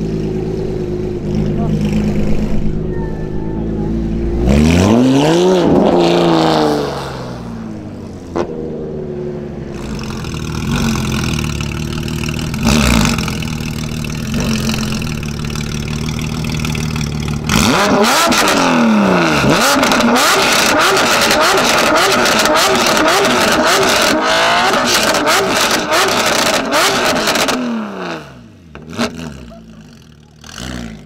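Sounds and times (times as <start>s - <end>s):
sports car engine idling: 0.0s - 4.7s, 7.2s - 24.2s, 27.9s - 31.0s
sports car engine revving: 0.0s - 31.0s.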